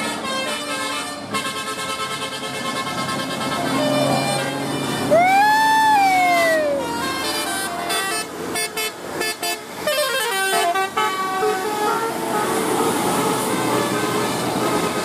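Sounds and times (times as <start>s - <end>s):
bus horn playing a tune: 0.0s - 5.4s, 6.2s - 15.0s.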